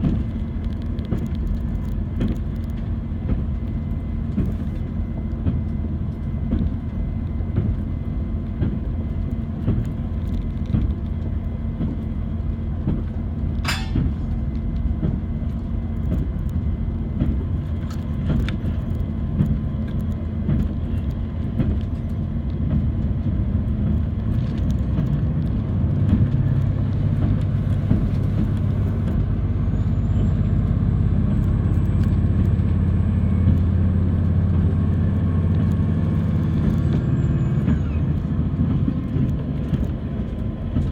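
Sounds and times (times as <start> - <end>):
train rumble: 0.0 - 40.9.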